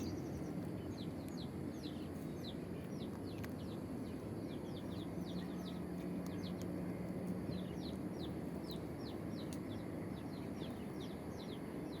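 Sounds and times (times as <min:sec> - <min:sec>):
birds chirping: 0:00.0 - 0:12.0
low background rumble: 0:00.0 - 0:12.0.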